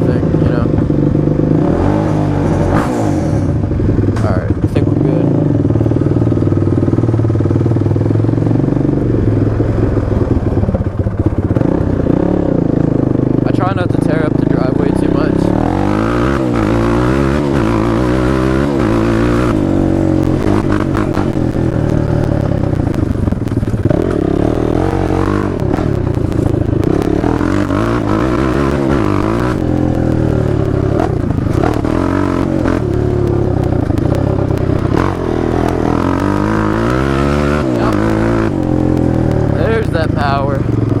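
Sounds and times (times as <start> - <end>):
quad bike engine revving: 0.0 - 41.0.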